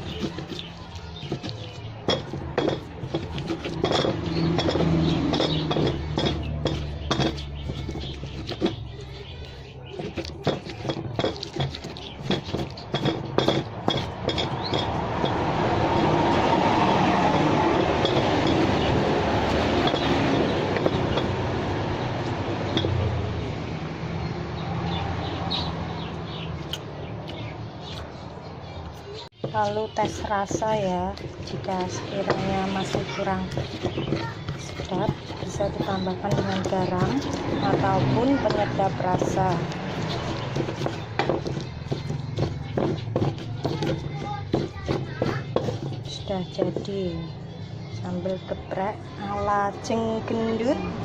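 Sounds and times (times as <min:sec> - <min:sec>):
utensil clinking against a mortar: 0:00.0 - 0:23.2, 0:29.3 - 0:47.4.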